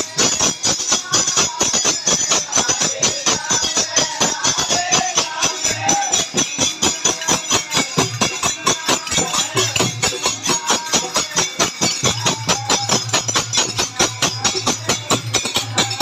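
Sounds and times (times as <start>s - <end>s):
hand percussion with jingles: 0.0s - 16.0s.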